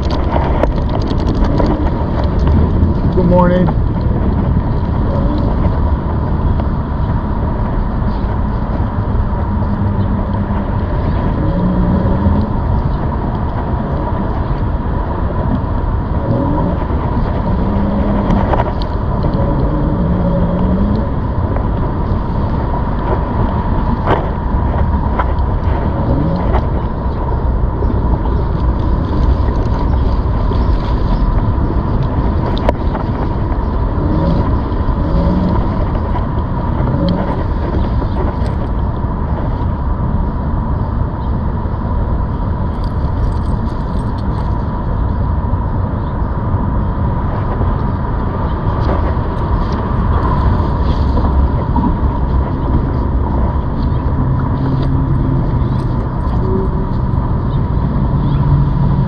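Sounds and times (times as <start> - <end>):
wheels rolling: 0.0 - 59.0
wind on microphone: 0.0 - 59.0.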